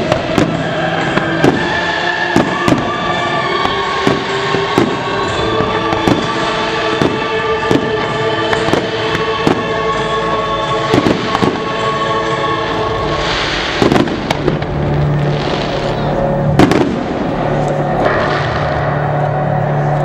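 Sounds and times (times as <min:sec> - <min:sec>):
fireworks bursting with bangs: 0:00.0 - 0:19.2
music with long held notes: 0:00.0 - 0:20.0.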